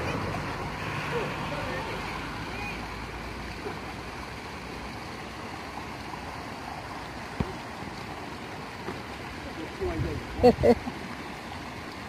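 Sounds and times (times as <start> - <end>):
water rushing into pond: 0.0 - 12.0.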